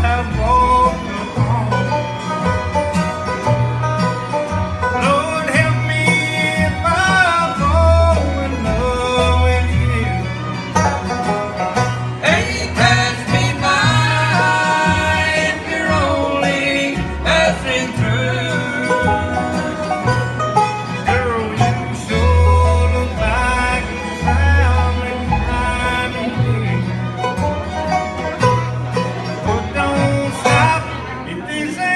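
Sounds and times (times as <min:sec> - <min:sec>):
bass line: 0:00.0 - 0:31.5
banjo: 0:00.0 - 0:31.9
bluegrass band playing: 0:00.0 - 0:31.9
guitar: 0:00.0 - 0:31.9.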